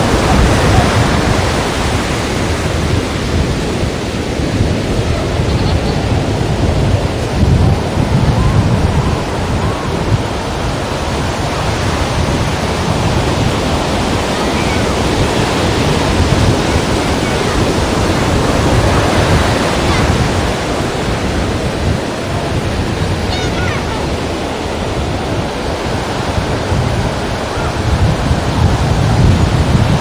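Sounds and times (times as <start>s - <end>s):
sea waves breaking against rocks: 0.0s - 30.0s.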